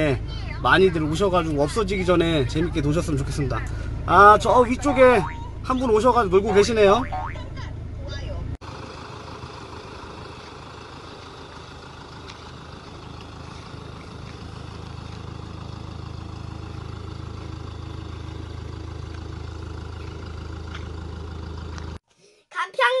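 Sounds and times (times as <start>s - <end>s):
suv engine idling: 0.0s - 22.0s.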